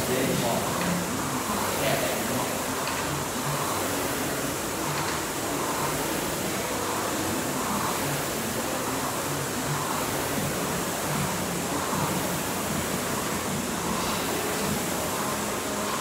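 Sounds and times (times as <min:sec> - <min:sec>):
rowing machine flywheel whirring: 0:00.0 - 0:16.0.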